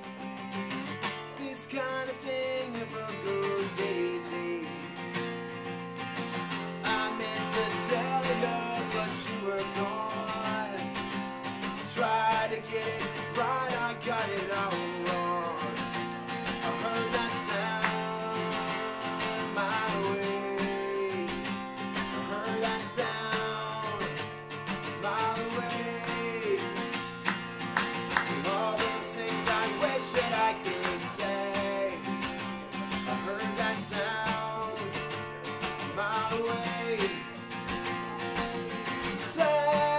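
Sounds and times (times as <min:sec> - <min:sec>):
acoustic guitar strumming: 0:00.0 - 0:39.9
man singing: 0:01.2 - 0:05.0, 0:06.6 - 0:27.3, 0:27.9 - 0:39.9.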